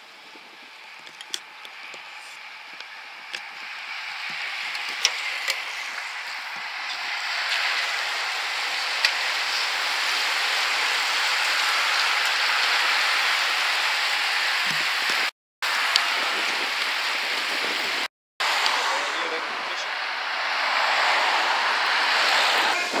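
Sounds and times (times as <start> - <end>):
bicycles passing: 0.0 - 23.0
tyres hissing on asphalt: 0.0 - 23.0.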